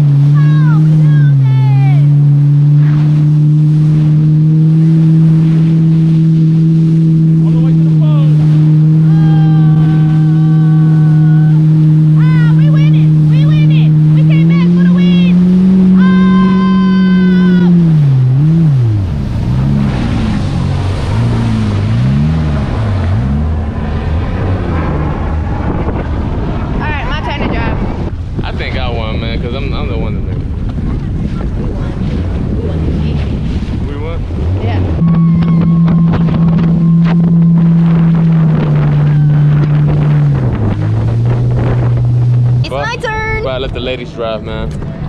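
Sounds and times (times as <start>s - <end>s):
jet ski engine revving: 0.0s - 45.0s
wind buffeting microphone: 0.0s - 45.0s.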